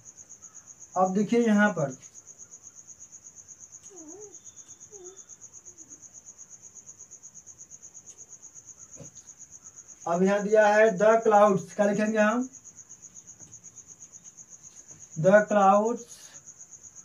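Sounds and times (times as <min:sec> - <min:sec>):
insect pulsing trill: 0:00.0 - 0:17.0.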